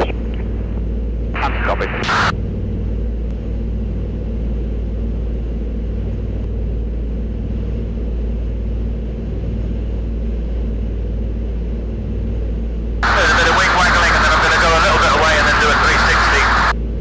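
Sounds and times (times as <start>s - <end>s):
aircraft engines droning: 0.0s - 17.0s.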